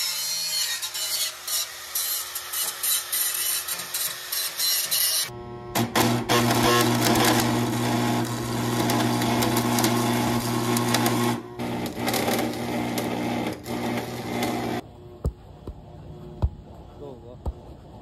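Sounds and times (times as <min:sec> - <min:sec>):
angle grinder grinding steel: 0:00.0 - 0:14.8.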